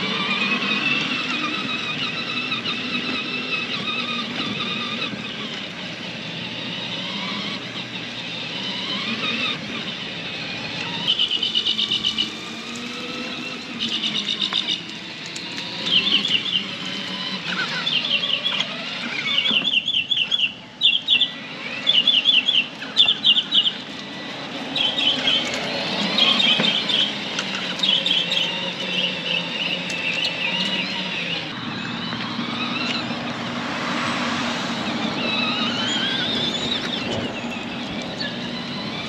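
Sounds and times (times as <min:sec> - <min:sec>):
electric ride-on vehicle driving: 0:00.0 - 0:39.0
small birds chirping: 0:00.0 - 0:39.0.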